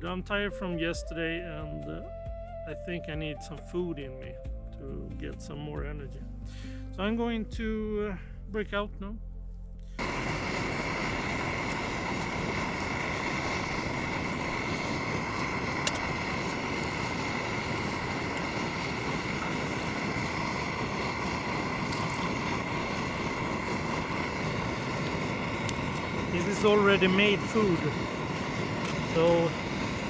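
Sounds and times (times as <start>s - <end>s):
gas burner hissing: 0.0s - 7.3s, 9.9s - 30.0s.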